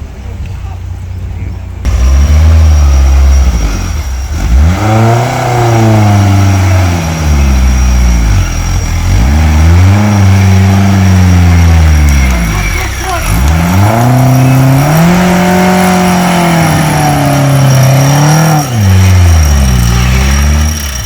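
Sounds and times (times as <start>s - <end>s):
vehicle engine revving hard: 1.9s - 21.0s.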